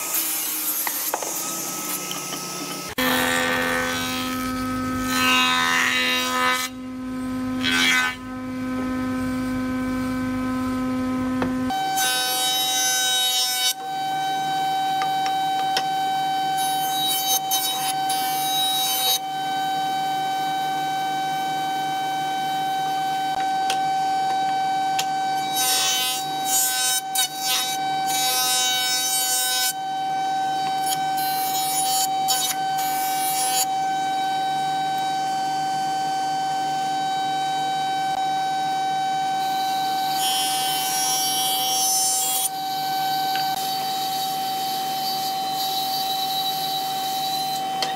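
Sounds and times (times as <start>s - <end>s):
jointer high whine: 0.0s - 47.9s.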